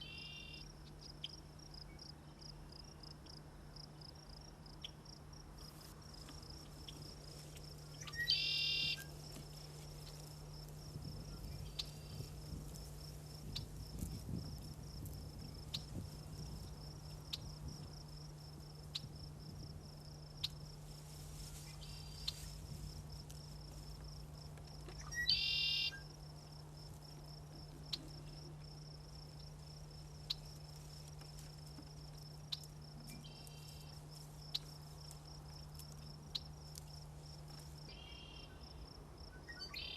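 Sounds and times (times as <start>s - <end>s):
low steady hum: 0.0s - 39.9s
insects trilling: 4.0s - 39.9s.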